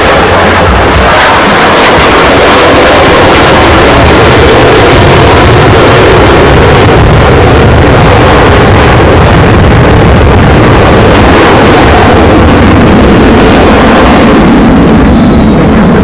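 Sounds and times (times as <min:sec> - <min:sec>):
jet engines flying over: 0:00.0 - 0:16.0.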